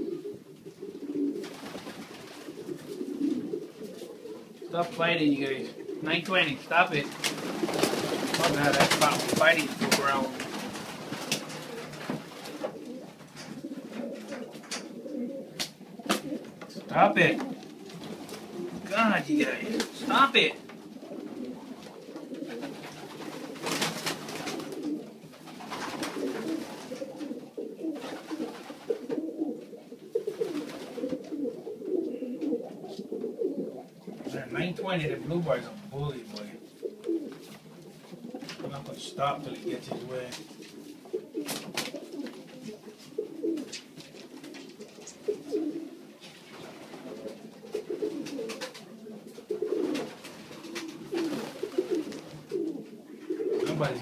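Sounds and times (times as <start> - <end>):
pigeons cooing: 0.0 - 54.0
wings flapping: 1.0 - 4.3, 5.8 - 16.5, 17.2 - 29.5, 30.2 - 31.5, 36.8 - 54.0.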